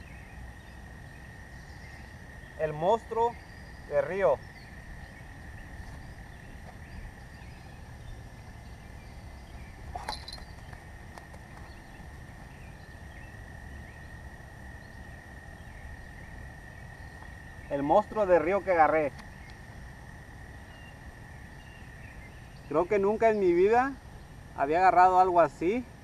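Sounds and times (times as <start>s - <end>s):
insect trill: 0.0s - 26.0s.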